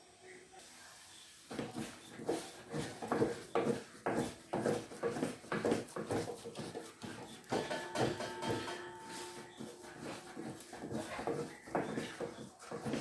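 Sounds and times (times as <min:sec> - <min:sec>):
spoon scraping and slapping in pot: 0:01.1 - 0:13.0.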